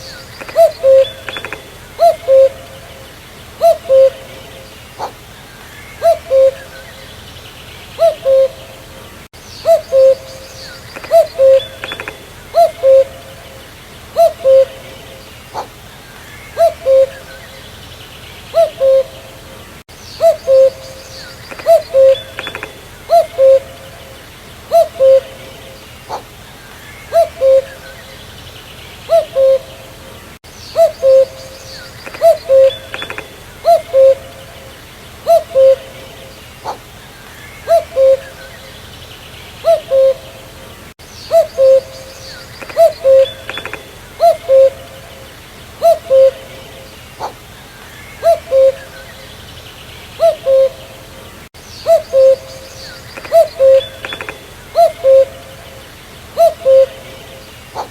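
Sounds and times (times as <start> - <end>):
cuckoo calling: 0.0 - 7.2, 7.9 - 17.8, 18.5 - 28.4, 29.0 - 38.9, 39.6 - 49.4, 50.1 - 57.9
other birds chirping: 0.0 - 57.9.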